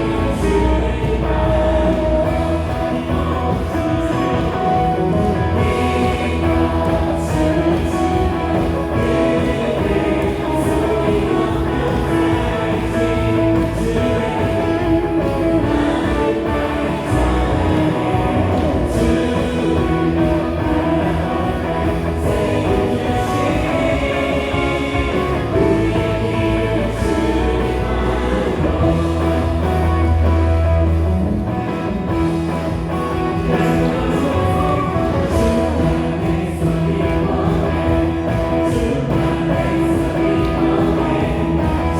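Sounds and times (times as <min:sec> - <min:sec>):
worship band playing: 0:00.0 - 0:41.9.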